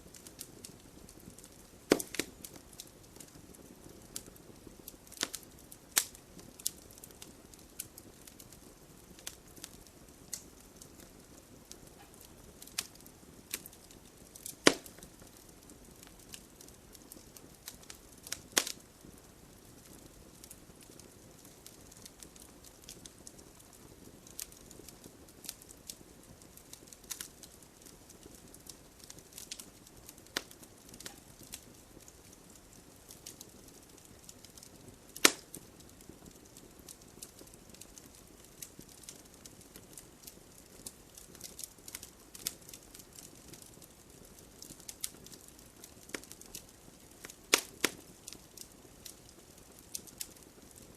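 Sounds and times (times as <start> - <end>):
fire crackling and popping: 0.0 - 50.9
logs burning in fireplace: 0.0 - 50.9.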